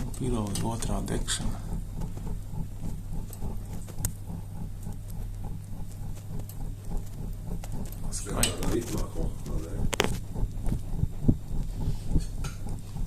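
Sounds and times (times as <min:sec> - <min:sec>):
fire crackling: 0:00.0 - 0:13.0
flame puffing rumble: 0:00.0 - 0:13.0
steady low hum: 0:00.0 - 0:13.0.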